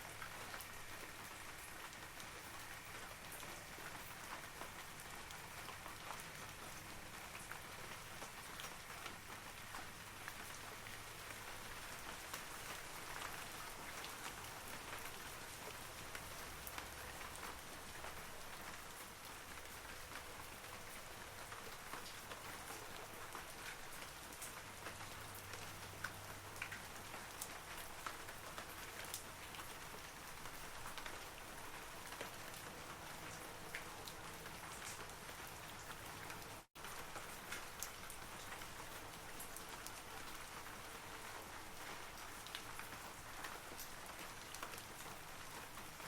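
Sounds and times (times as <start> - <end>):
rain falling on trees: 0.0 - 46.0.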